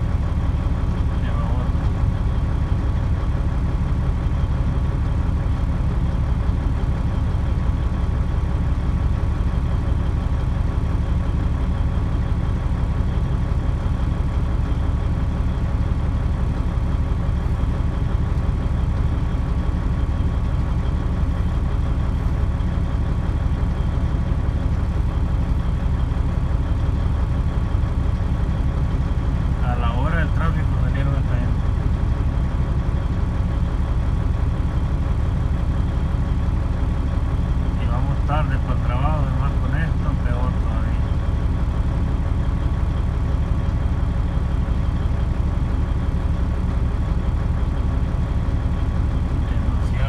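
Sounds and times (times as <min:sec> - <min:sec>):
vehicle engines idling: 0:00.0 - 0:50.0.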